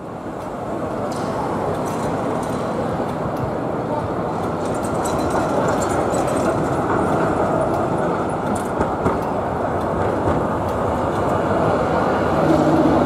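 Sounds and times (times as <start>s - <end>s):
city traffic hum: 0.0s - 13.0s
tram running on track: 0.0s - 13.0s.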